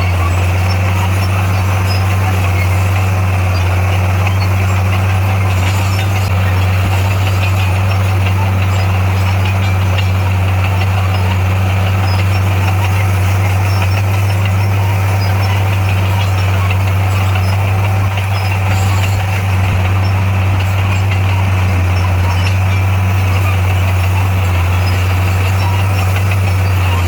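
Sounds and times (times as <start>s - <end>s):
bulldozer diesel engine hum: 0.0s - 27.0s.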